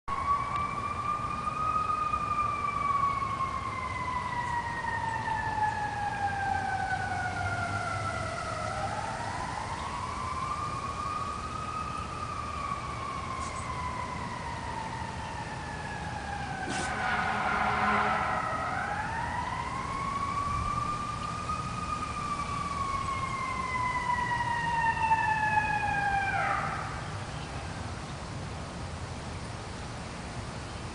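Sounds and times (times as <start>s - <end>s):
siren wailing: 0.1s - 27.1s.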